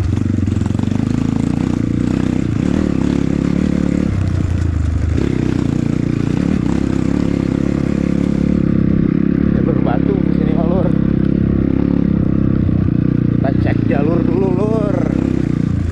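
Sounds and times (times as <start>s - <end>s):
motorcycle engine under throttle: 0.0s - 15.9s.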